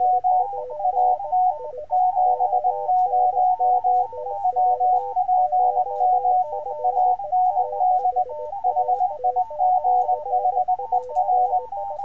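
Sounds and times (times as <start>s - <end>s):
morse code tones: 0.0s - 12.0s.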